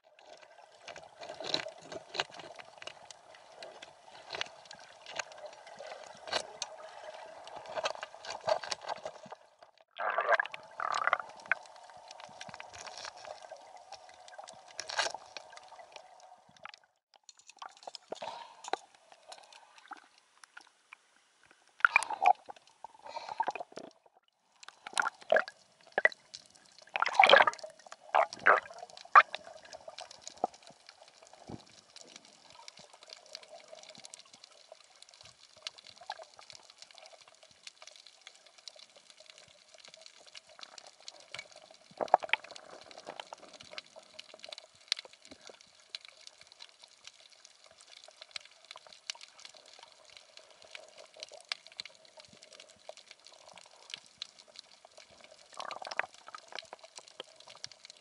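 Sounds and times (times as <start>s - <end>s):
underwater water noise: 0.0s - 58.0s
water bubbling and gurgling: 0.0s - 58.0s.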